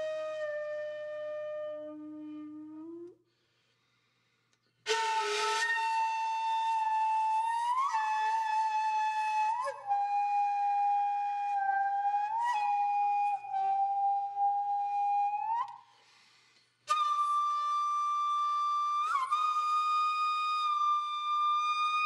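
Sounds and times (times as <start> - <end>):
solo flute long notes: 0.0 - 3.2, 4.9 - 15.9, 16.9 - 22.0.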